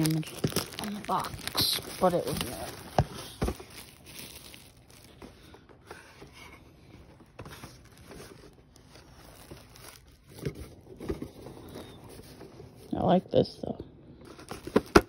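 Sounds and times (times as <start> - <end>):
plastic and cardboard rustling: 0.0 - 13.2, 14.2 - 15.0.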